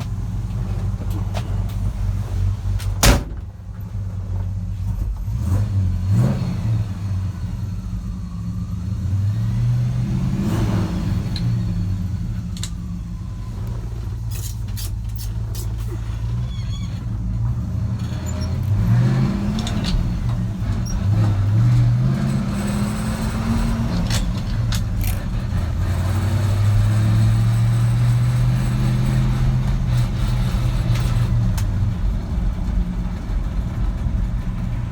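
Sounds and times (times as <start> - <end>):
fire truck engine revving: 0.0 - 34.9.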